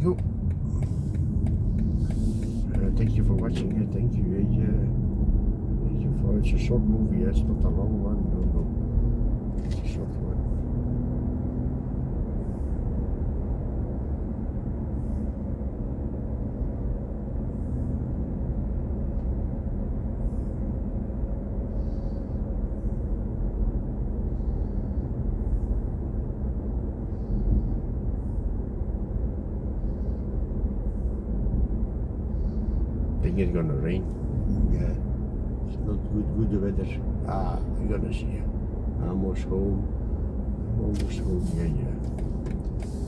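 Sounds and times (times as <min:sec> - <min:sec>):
road and tyre rumble in car: 0:00.0 - 0:43.0.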